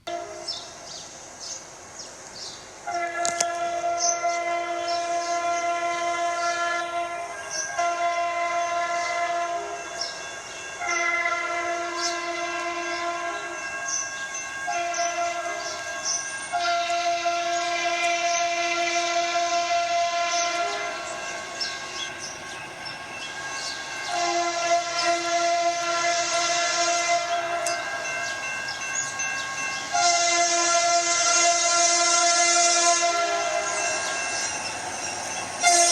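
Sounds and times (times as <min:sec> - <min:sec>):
locomotive air horn blasts: 0:00.0 - 0:00.8, 0:02.8 - 0:10.0, 0:10.8 - 0:22.3, 0:23.7 - 0:34.7, 0:35.6 - 0:35.9.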